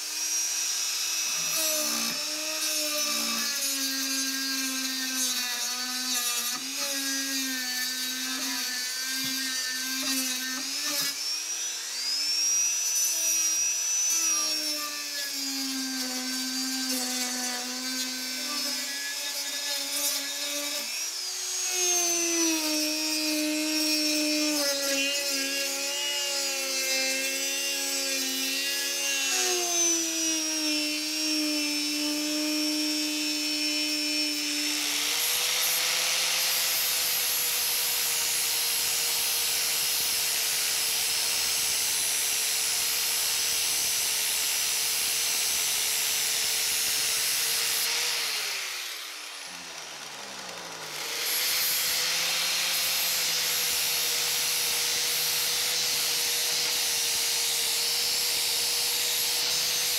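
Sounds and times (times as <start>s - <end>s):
angle grinder grinding steel: 0.0s - 59.9s
rotary tool sanding metal: 0.0s - 59.9s.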